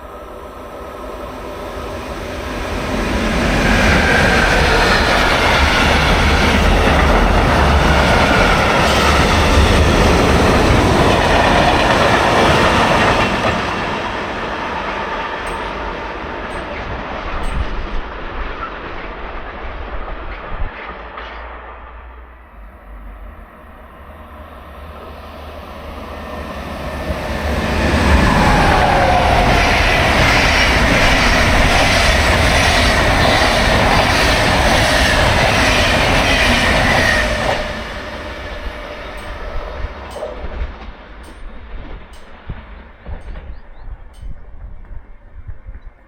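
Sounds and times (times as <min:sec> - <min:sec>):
train whine: 0:00.0 - 0:46.0
train wheels clattering: 0:02.6 - 0:22.3, 0:24.8 - 0:46.0.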